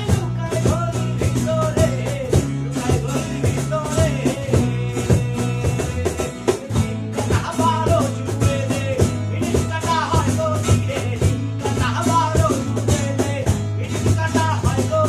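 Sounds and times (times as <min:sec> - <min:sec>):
bass guitar: 0:00.0 - 0:15.0
cajon beat: 0:00.0 - 0:15.0
person singing: 0:00.0 - 0:15.0
strummed acoustic guitars: 0:00.0 - 0:15.0.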